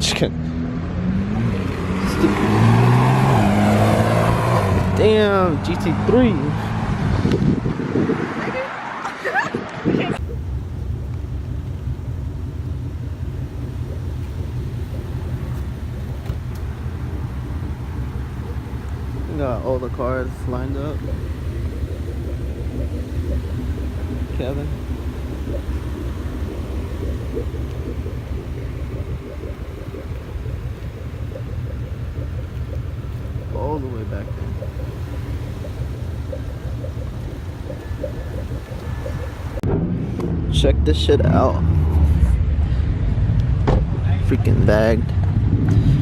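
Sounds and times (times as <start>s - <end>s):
car engine rumbling: 0.0s - 46.0s.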